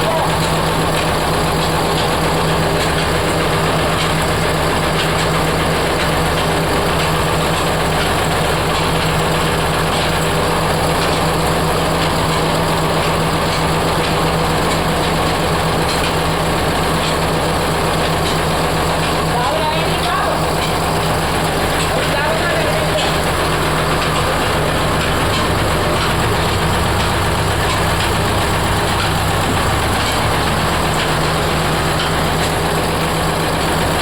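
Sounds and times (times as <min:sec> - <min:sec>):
machinery droning: 0:00.0 - 0:34.0.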